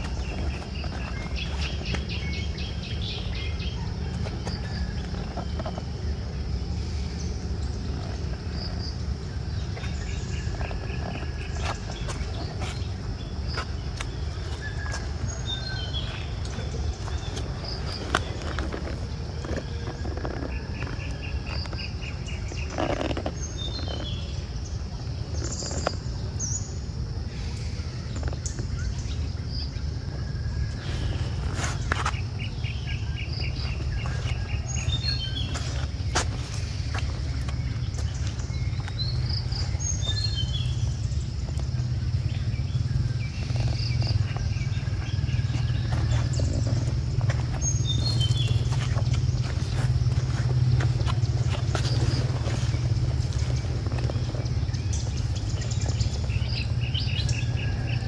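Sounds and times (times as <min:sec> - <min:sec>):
bird chirps and trills: 0:00.0 - 0:58.0
high insect drone: 0:00.0 - 0:58.0.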